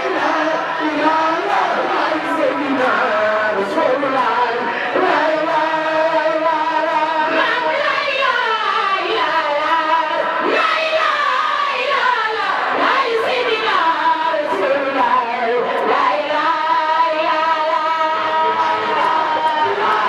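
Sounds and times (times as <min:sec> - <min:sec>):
women chanting in unison: 0:00.0 - 0:20.0.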